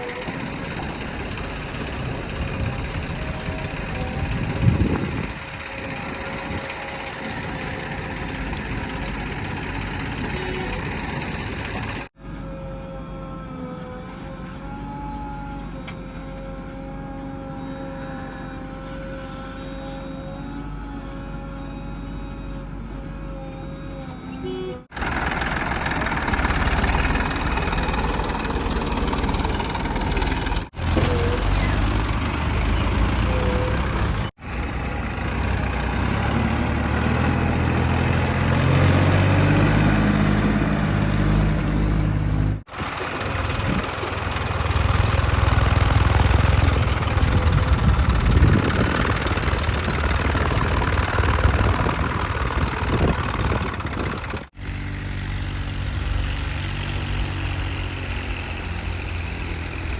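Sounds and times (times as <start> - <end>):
heavy diesel machinery working: 0.0 - 59.9.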